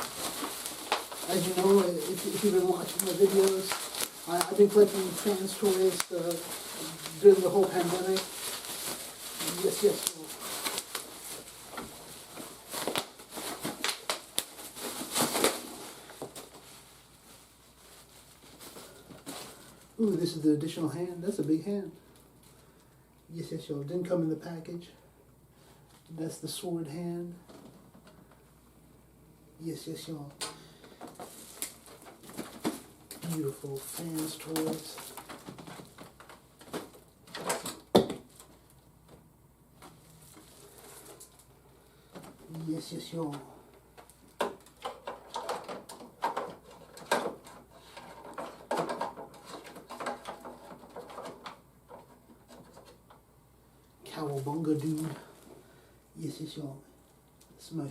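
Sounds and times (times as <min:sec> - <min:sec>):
plastic packaging crinkling: 0:00.0 - 0:22.9, 0:30.3 - 0:53.2, 0:54.1 - 0:55.8.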